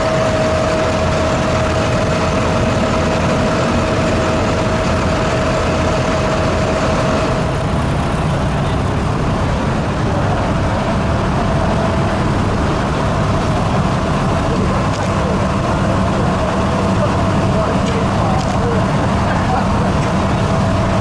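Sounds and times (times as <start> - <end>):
tractor diesel engines idling: 0.0 - 21.0.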